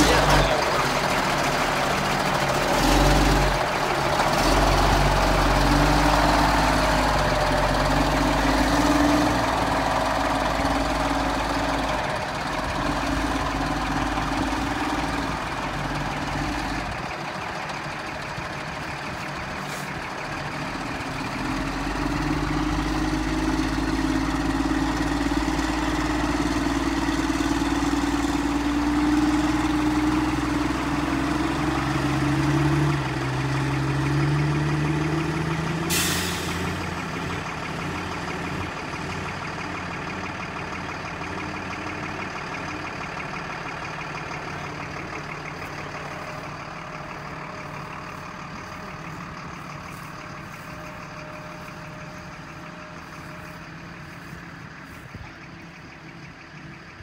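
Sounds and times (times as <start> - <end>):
truck diesel engine accelerating: 0.0 - 57.0.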